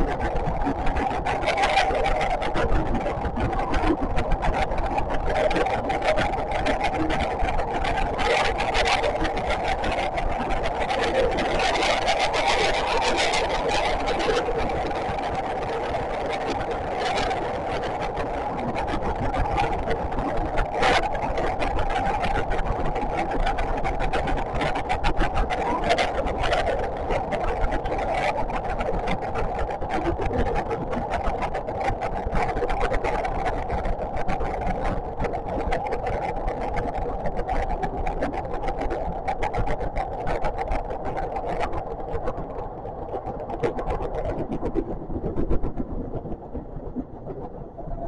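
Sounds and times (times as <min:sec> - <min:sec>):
continuous hum: 0:00.0 - 0:48.0.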